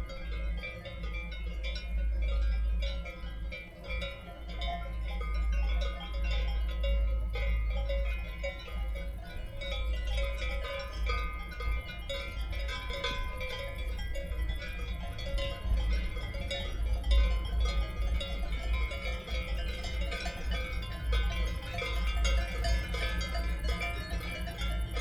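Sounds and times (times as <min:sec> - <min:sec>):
livestock bells clanking: 0:00.0 - 0:25.0
wind rumble on microphone: 0:00.0 - 0:25.0.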